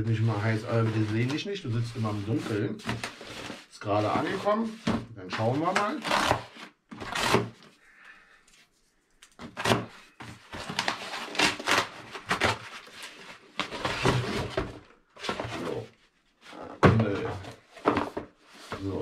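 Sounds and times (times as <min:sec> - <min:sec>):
cardboard parcel being unpacked: 0:00.3 - 0:07.7, 0:09.4 - 0:19.0.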